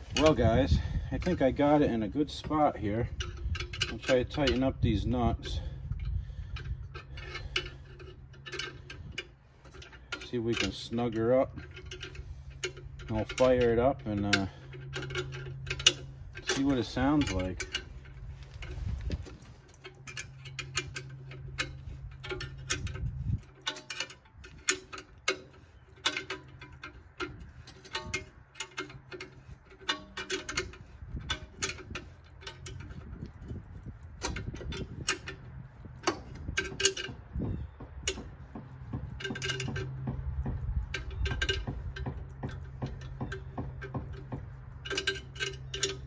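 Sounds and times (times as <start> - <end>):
ratcheting wrench clicking: 2.4 - 46.0.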